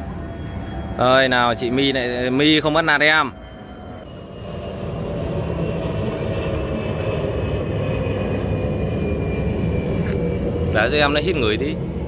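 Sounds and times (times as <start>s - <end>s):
faint high whine: 0.0s - 12.0s
passing engine rumble: 0.0s - 12.0s.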